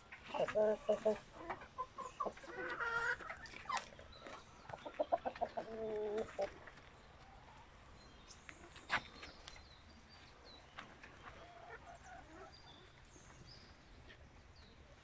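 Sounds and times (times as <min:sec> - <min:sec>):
chickens clucking faintly: 0:00.0 - 0:15.0.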